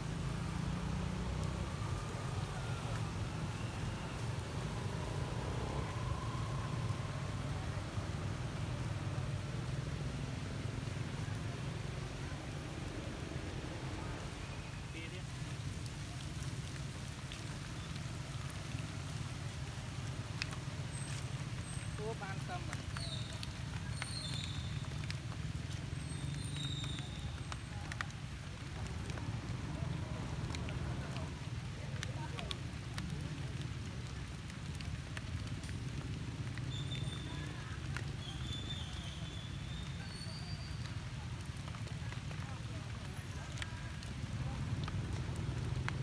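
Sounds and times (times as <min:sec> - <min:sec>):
rain pattering on stone and leaves: 0:00.0 - 0:46.0.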